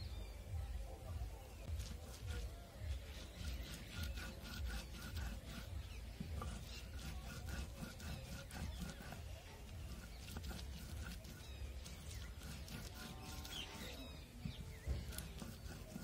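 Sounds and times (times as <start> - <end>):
stone grinding on stone: 1.6 - 16.0.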